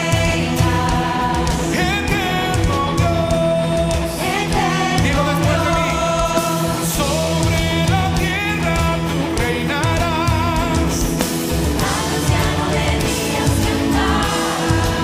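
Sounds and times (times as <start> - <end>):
band with drums and guitars: 0.0 - 15.0.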